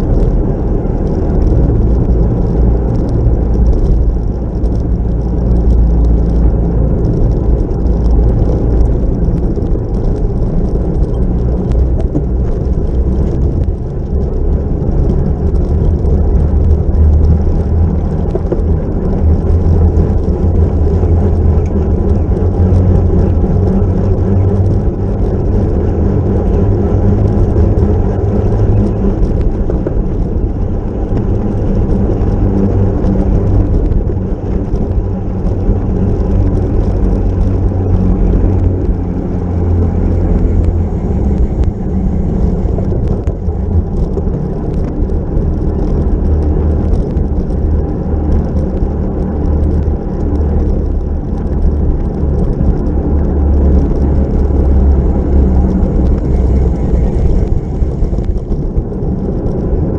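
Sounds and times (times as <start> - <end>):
road noise: 0.0 - 59.9
wind rushing over microphone: 0.0 - 59.9.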